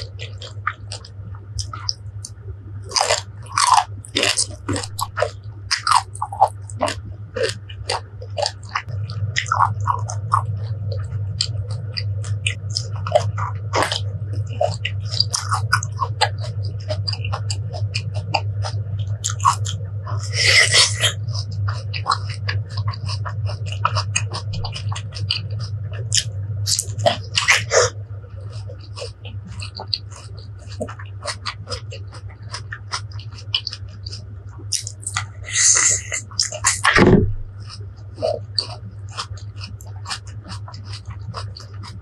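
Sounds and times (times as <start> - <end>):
chewing raw fruit: 0.0 - 42.0
steady low hum: 0.0 - 42.0
crunching bite: 2.9 - 10.7, 11.4 - 42.0.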